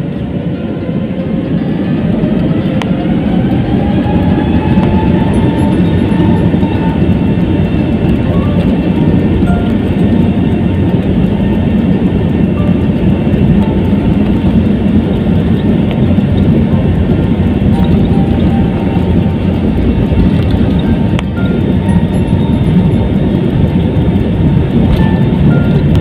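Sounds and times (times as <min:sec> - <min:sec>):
jet engine noise: 0:00.0 - 0:26.0
wheel and tyre rumble: 0:00.0 - 0:26.0.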